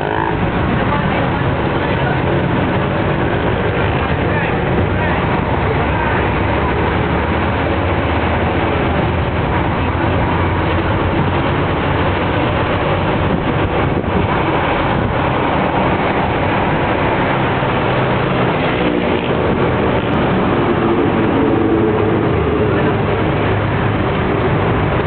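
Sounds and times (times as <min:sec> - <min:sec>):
road and traffic noise: 0:00.0 - 0:25.0
vehicle engine running: 0:00.0 - 0:25.0.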